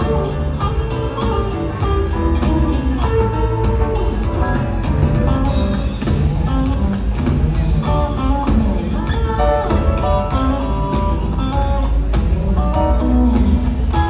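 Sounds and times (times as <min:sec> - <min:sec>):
electric guitar: 0:00.0 - 0:14.0
piano: 0:00.0 - 0:14.0
upright bass: 0:00.0 - 0:14.0.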